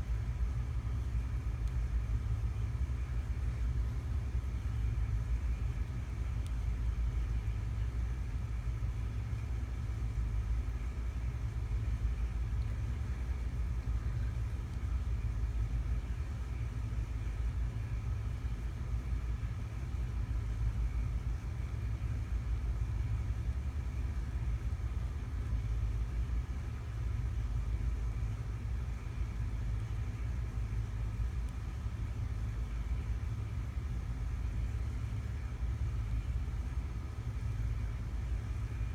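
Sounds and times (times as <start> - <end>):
faint constant hum: 0.0 - 38.9
low background rumble: 0.0 - 38.9.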